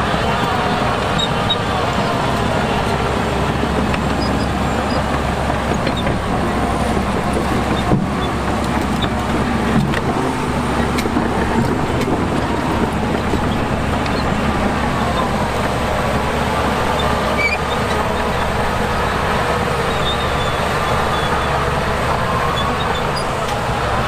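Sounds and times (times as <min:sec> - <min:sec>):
heavy machinery diesel engines: 0:00.0 - 0:24.0.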